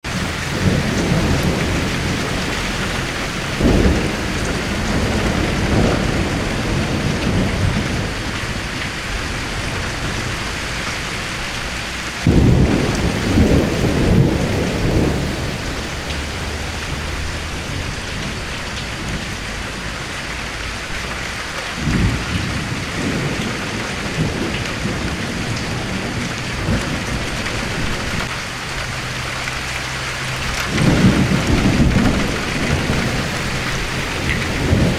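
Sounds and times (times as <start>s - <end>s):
thunder rumbling: 0.0s - 21.1s, 21.8s - 34.9s
steady rain falling: 0.0s - 34.9s.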